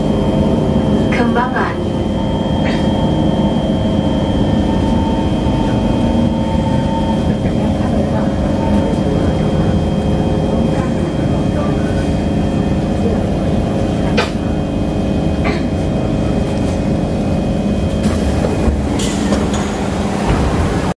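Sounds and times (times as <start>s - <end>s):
onboard equipment whine: 0.0s - 21.0s
train interior low rumble: 0.0s - 21.0s.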